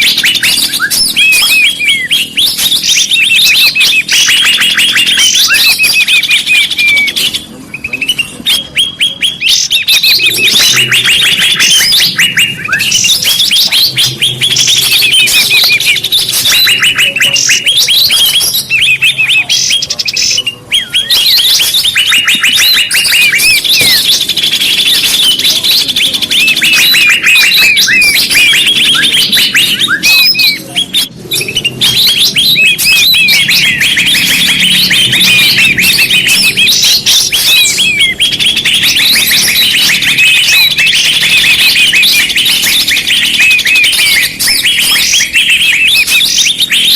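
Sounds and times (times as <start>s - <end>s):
flock of small birds chirping: 0.0s - 46.9s.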